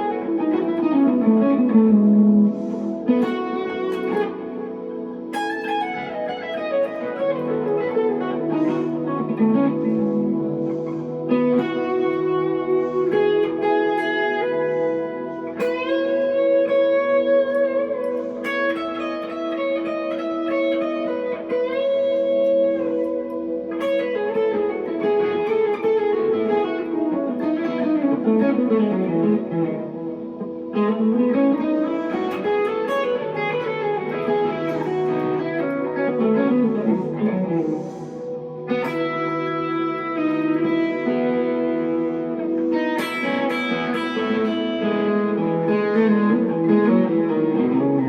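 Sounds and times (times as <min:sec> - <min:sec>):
electric guitar chords and notes: 0:00.0 - 0:48.0.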